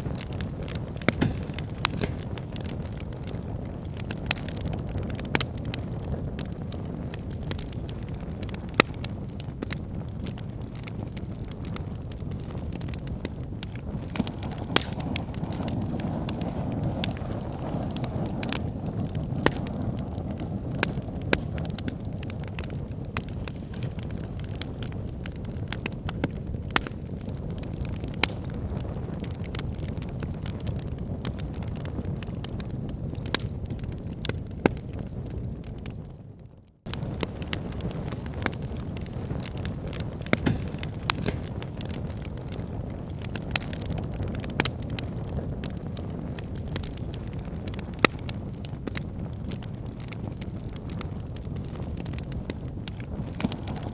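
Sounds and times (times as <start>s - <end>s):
bonfire flames rushing: 0.0s - 53.9s
burning wood crackling and popping: 0.0s - 53.9s.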